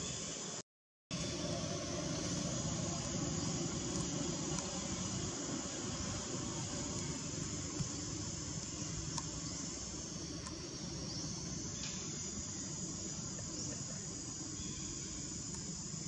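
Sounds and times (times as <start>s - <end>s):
insect chirps: 0.0s - 16.0s
insects hissing: 0.0s - 16.0s.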